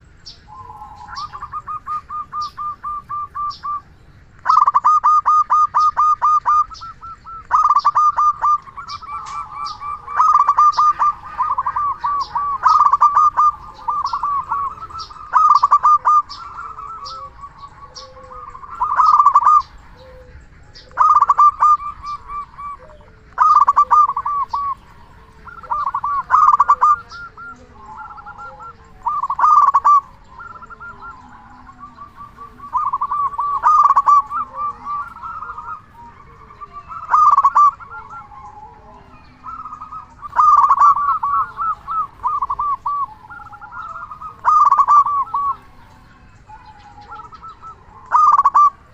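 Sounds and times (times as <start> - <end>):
dove cooing: 0.0 - 48.9.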